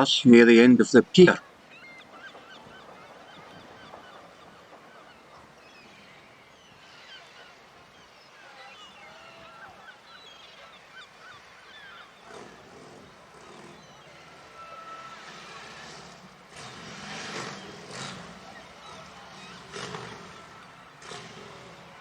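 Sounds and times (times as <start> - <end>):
flock of birds calling: 0.0 - 22.0.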